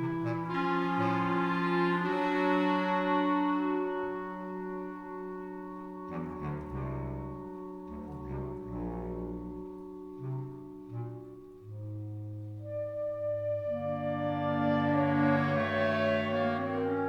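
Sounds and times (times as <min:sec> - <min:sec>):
clarinet choir sustained chords: 0:00.0 - 0:17.0
low bass clarinet notes: 0:00.0 - 0:17.0.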